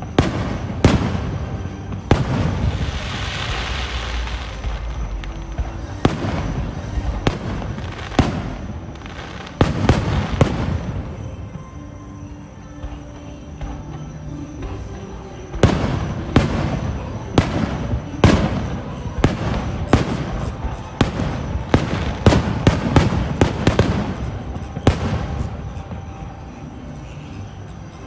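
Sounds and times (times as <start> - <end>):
fireworks bangs: 0.0 - 11.9, 12.8 - 26.8.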